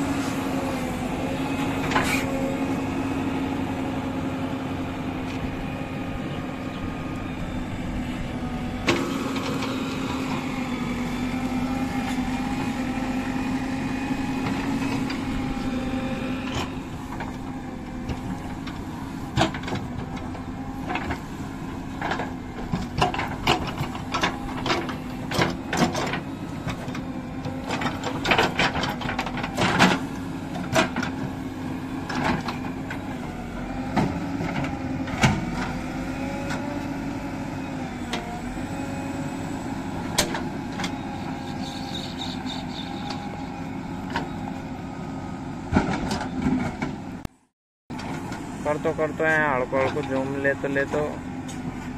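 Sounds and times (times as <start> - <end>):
diesel engine under load: 0.0 - 51.9.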